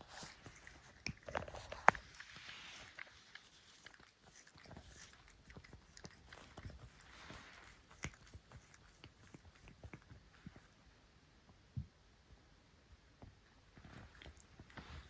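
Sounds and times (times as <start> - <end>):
cat licking and nibbling: 0.0 - 11.0, 13.8 - 15.0
soft hissy sounds: 0.0 - 15.0.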